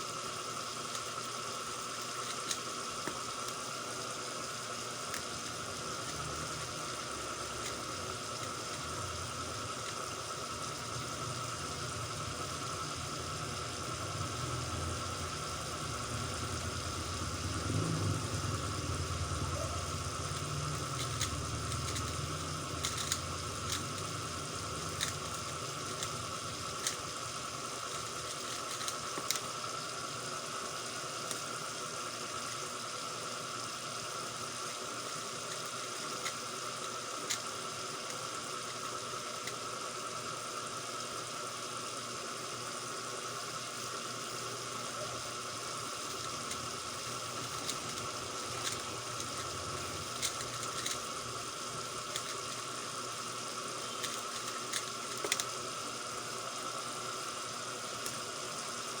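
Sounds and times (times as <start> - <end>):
background hum and hiss: 0.0 - 59.0.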